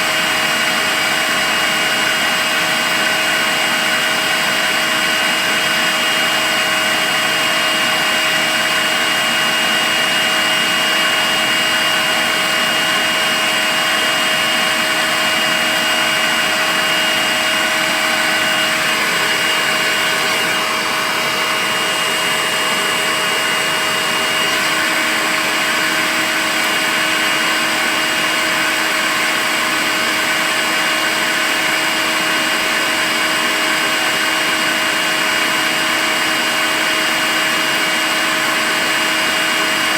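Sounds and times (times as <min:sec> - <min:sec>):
cordless vacuum cleaner running: 0:00.0 - 0:39.9.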